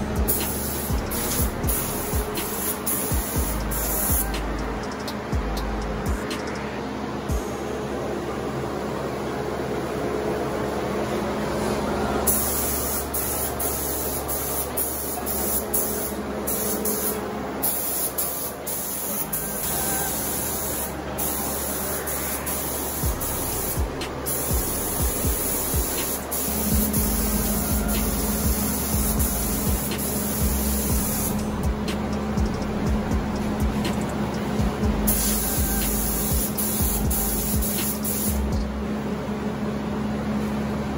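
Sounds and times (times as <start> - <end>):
spray gun air hiss: 0.0 - 6.5, 12.3 - 38.6.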